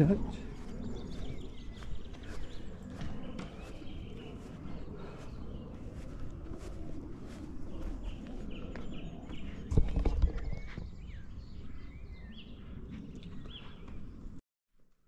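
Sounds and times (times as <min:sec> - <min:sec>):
footsteps on outdoor path: 0:00.0 - 0:14.3
small birds chirping: 0:00.0 - 0:14.4.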